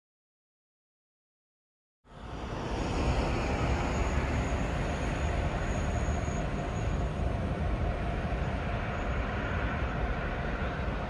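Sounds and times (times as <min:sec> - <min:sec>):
faint high whine: 0:02.1 - 0:11.0.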